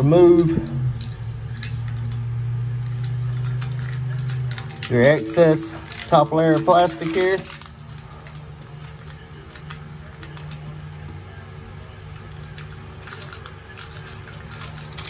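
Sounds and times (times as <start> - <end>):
low machinery hum: 0.0 - 15.0
plastic film peeling crackle: 1.0 - 10.9, 12.0 - 15.0.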